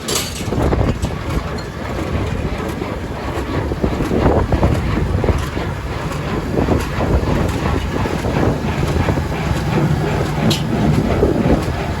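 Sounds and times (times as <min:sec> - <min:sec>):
clattering and rattling: 0:00.0 - 0:12.0
tractor engine rumbling: 0:00.0 - 0:12.0.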